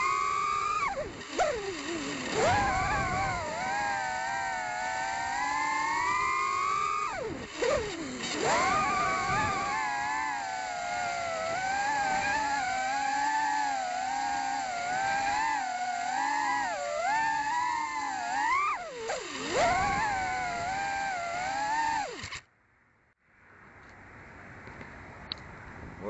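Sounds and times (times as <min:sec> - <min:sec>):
quadcopter motors whining: 0:00.0 - 0:22.4.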